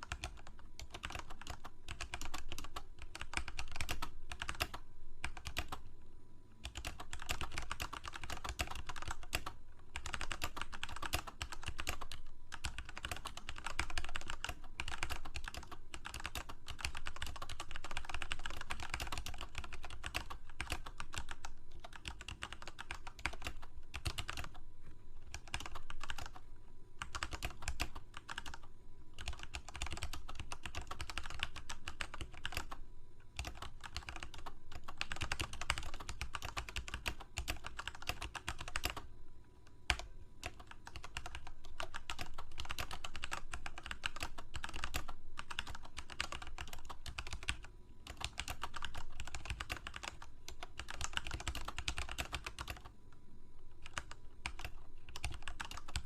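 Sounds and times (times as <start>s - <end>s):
typing on computer keyboard: 0.0s - 5.8s, 6.6s - 24.6s, 25.2s - 26.4s, 27.0s - 32.8s, 33.4s - 39.1s, 39.9s - 52.9s, 53.8s - 56.0s.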